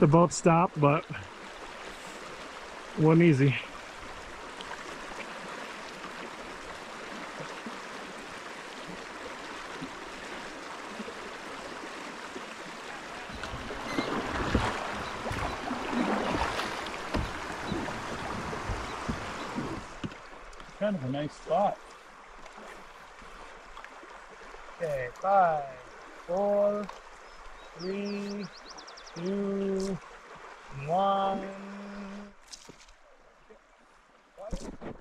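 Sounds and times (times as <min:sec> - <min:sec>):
water splashes and knocks: 0:00.0 - 0:27.2, 0:32.4 - 0:33.0, 0:34.4 - 0:35.0
river water running: 0:00.0 - 0:35.0.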